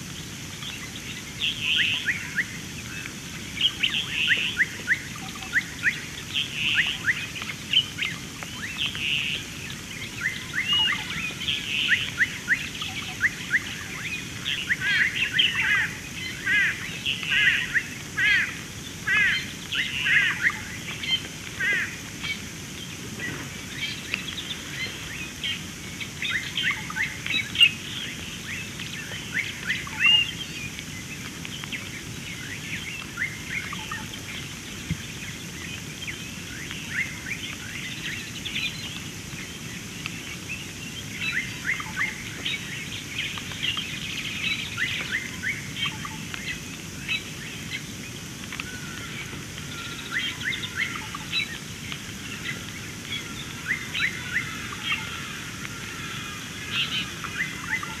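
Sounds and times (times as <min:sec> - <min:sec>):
faint steady hiss: 0:00.0 - 0:58.0
small birds chirping: 0:00.1 - 0:58.0.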